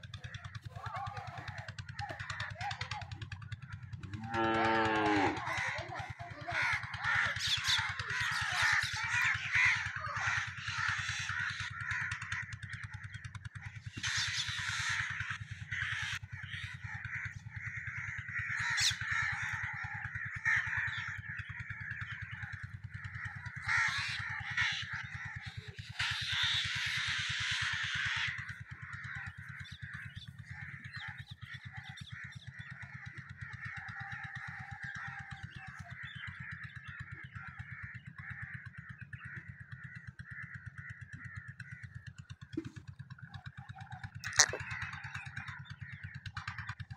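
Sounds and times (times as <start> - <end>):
many birds calling: 0.0 - 46.9.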